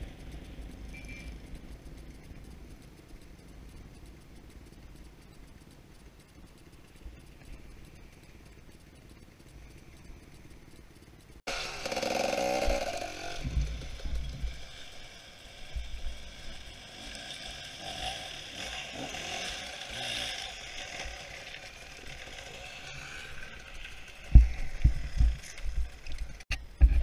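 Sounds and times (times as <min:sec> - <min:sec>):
dirt bike engines revving: 0:00.0 - 0:26.5.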